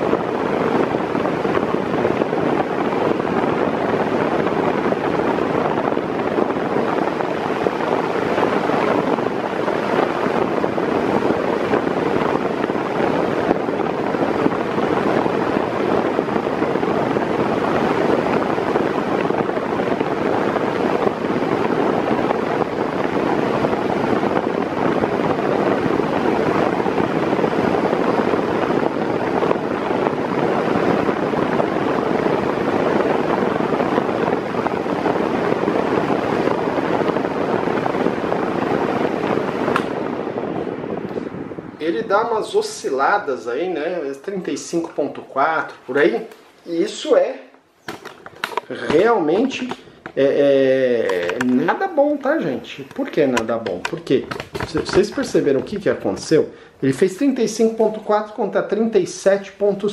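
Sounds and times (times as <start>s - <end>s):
fan rushing air: 0.0s - 59.9s.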